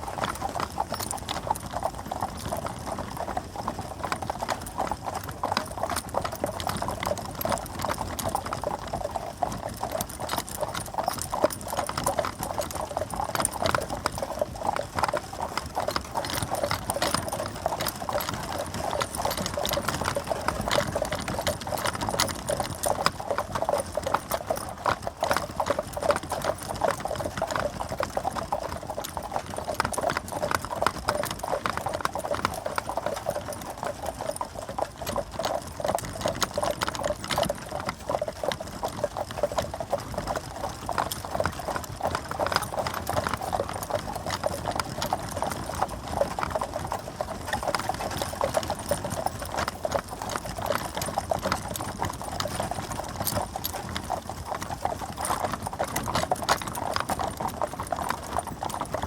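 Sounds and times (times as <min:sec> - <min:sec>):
horse hooves clip-clopping: 0:00.0 - 0:59.0.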